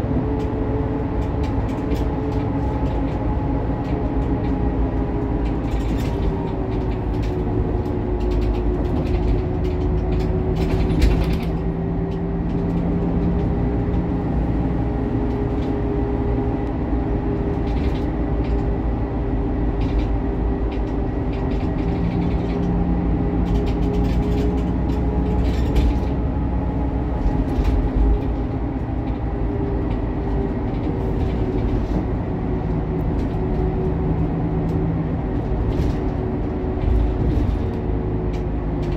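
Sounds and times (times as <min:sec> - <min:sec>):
bus body rattling: 0:00.0 - 0:38.9
bus engine drone with whine: 0:00.0 - 0:38.9.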